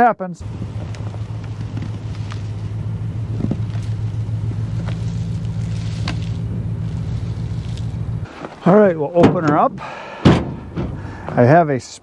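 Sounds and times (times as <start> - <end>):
engine idling: 0.4 - 11.5.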